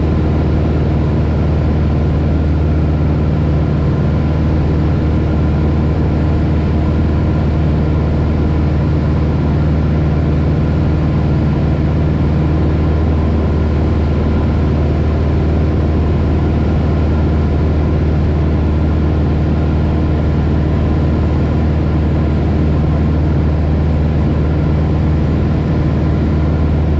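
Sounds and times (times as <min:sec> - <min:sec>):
propeller aircraft engine drone: 0:00.0 - 0:26.9.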